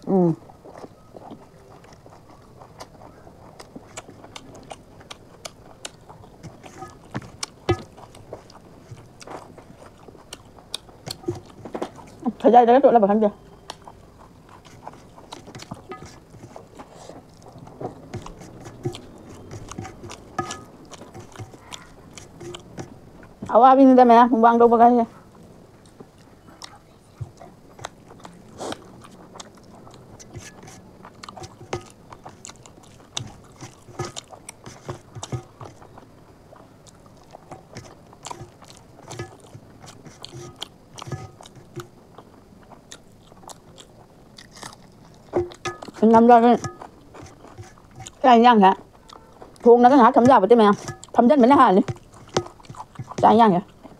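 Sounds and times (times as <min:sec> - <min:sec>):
wet chewing clicks and smacks: 0:00.0 - 0:12.4, 0:13.3 - 0:23.6, 0:25.2 - 0:53.9.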